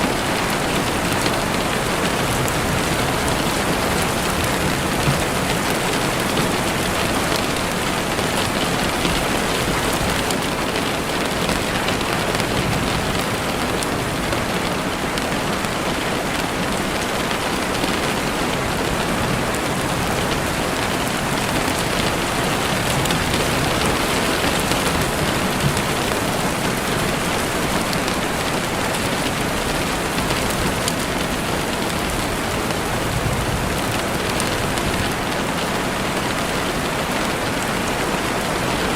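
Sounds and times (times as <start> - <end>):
heavy rain on a window: 0.0 - 38.9.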